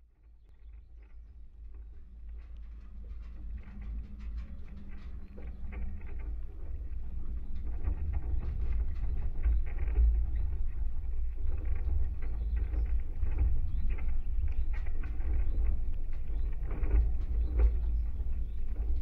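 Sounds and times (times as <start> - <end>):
deep structure-borne rumble: 0.0 - 19.0.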